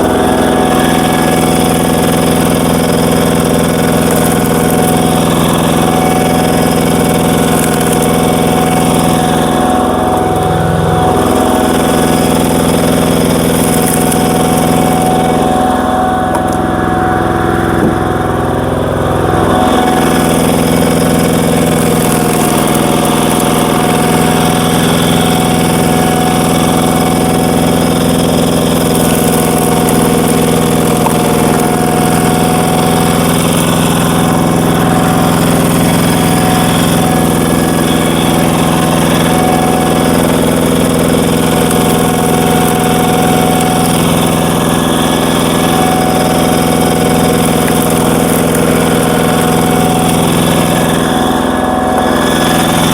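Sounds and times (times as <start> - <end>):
diesel tiller engine running: 0.0 - 52.9.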